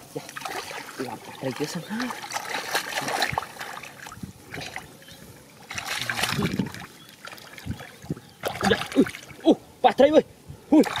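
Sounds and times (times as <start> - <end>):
muddy water splashing: 0.0 - 9.6, 10.7 - 11.0.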